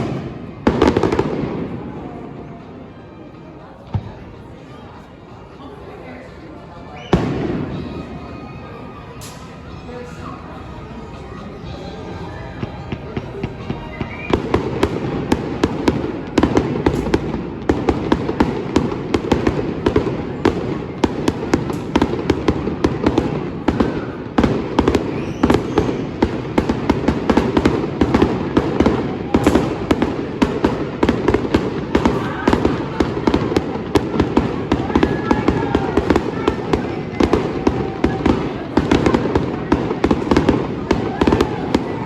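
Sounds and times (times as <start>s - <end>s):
fireworks bangs and crackles: 0.0s - 2.8s, 3.9s - 4.3s, 7.0s - 8.6s, 12.6s - 42.0s.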